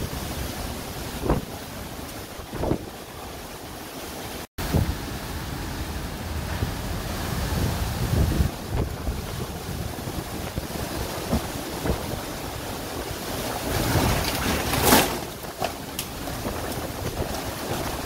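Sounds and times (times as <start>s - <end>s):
driving rain: 0.0s - 18.0s
strong wind gusts: 0.0s - 18.0s
wind buffeting microphone: 0.0s - 18.0s.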